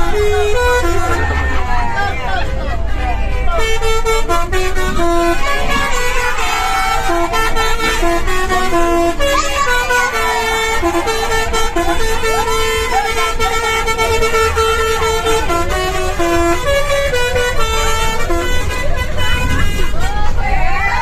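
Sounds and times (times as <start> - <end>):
bus engines rumbling: 0.0 - 21.0
multi-tone bus horns: 0.0 - 21.0.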